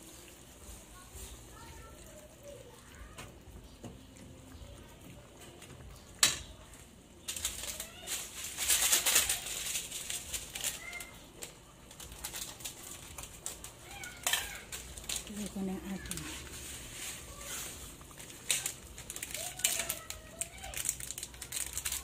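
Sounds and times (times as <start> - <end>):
meat and onion sizzling in oil: 0.0 - 22.0.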